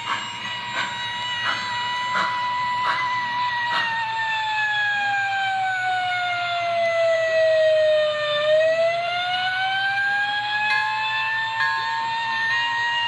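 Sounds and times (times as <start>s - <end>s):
wailing fire siren: 0.0s - 13.0s.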